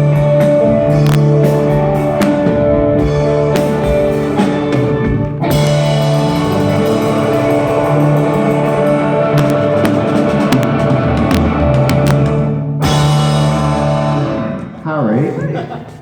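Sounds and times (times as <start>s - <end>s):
ticking cymbal beat: 0.0s - 14.8s
rock band playing: 0.0s - 15.1s.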